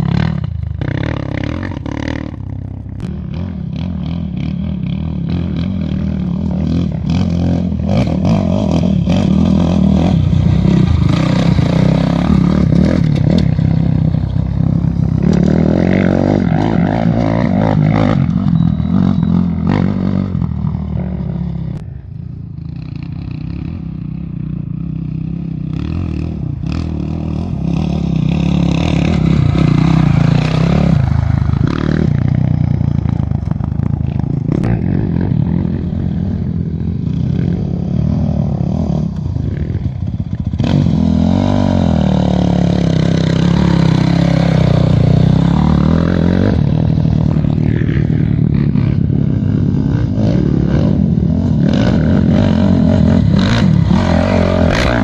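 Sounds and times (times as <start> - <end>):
vehicle engine running loudly: 0.0 - 55.0.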